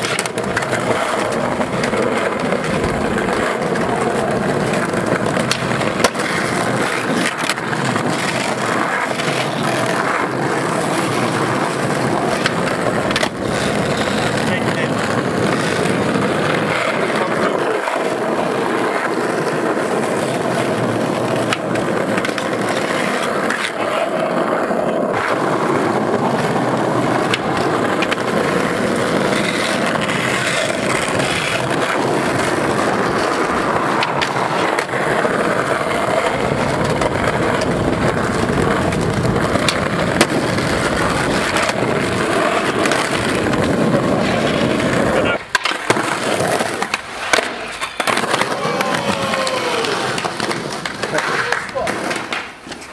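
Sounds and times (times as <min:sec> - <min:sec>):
skateboard popping and landing: 0:00.0 - 0:52.9
skateboard wheels rolling on asphalt: 0:00.0 - 0:52.9.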